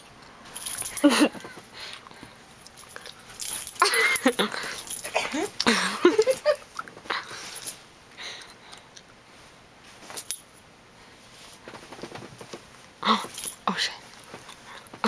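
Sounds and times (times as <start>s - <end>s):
bedding rustling: 0.4s - 7.8s, 9.3s - 15.0s.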